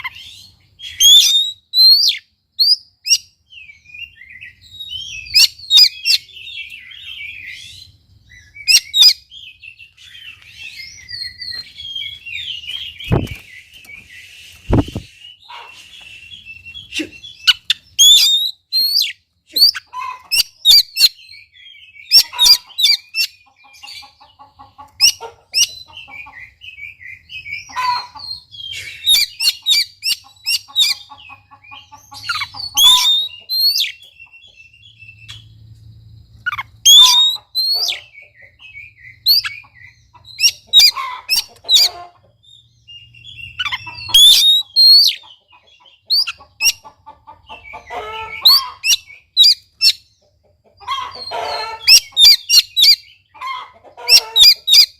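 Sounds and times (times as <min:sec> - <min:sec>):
songbird whistling and trilling: 0:00.0 - 0:23.5, 0:25.0 - 0:35.5, 0:36.4 - 0:45.3, 0:46.0 - 0:46.9, 0:47.9 - 0:50.2, 0:51.2 - 0:53.3, 0:54.1 - 0:54.9.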